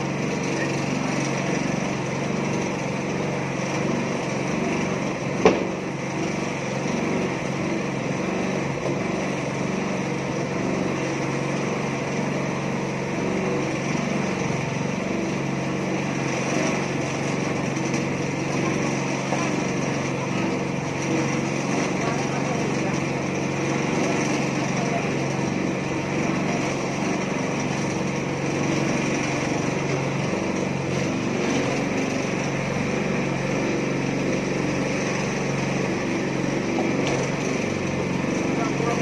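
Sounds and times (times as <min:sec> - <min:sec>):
concrete mixer engine running: 0:00.0 - 0:39.0.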